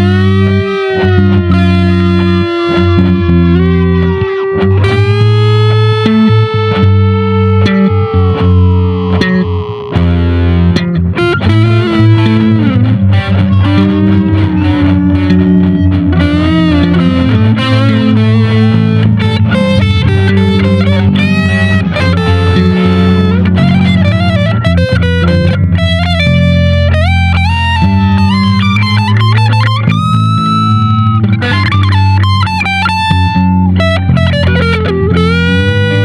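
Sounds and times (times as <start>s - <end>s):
bass line: 0.0s - 36.0s
overdriven electric guitar lead: 0.0s - 36.0s.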